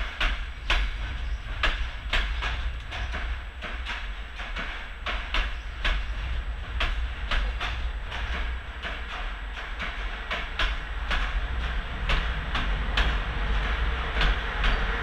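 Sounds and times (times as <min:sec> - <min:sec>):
low steady train rumble: 0:00.0 - 0:15.0
train wheels clicking over rail joints: 0:00.0 - 0:15.0.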